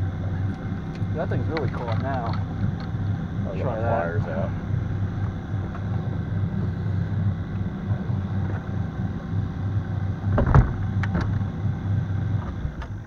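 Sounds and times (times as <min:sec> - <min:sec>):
outboard motor humming: 0:00.0 - 0:13.0.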